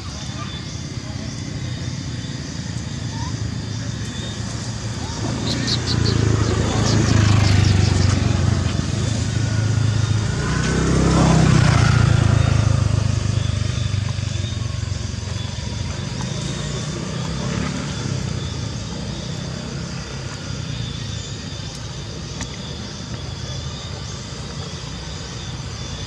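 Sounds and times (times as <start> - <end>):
motor engine humming: 0.0 - 26.0.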